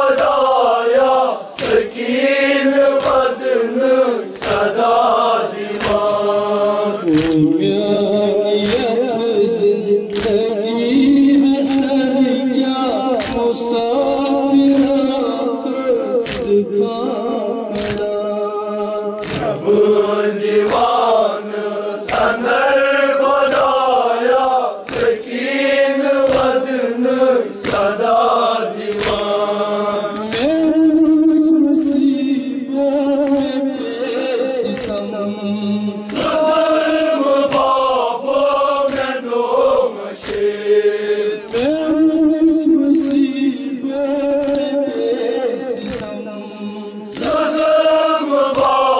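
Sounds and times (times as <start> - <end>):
men chanting: 0.0 - 48.9
rhythmic chest slapping: 0.0 - 48.9.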